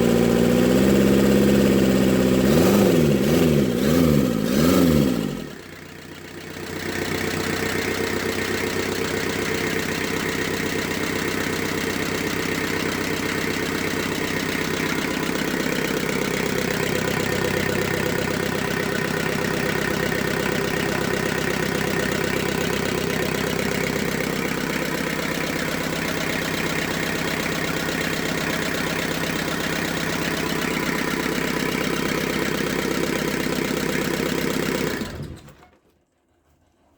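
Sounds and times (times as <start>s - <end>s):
diesel engine running: 0.0s - 35.6s.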